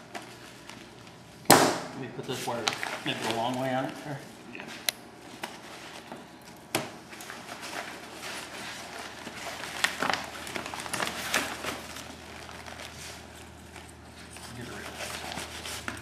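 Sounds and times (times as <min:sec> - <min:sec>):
paper rustling: 0:00.0 - 0:01.2, 0:02.2 - 0:16.0.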